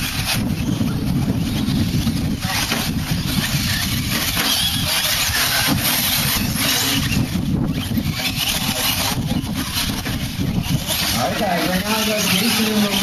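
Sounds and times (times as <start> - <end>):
steady low rumble: 0.0 - 12.3
rc truck motors whining: 0.0 - 13.0.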